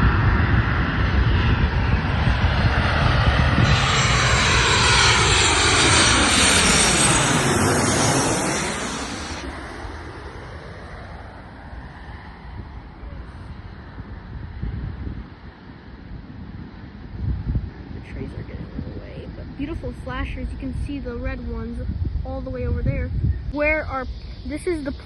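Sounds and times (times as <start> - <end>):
jet airliner passing overhead: 0.0 - 25.0.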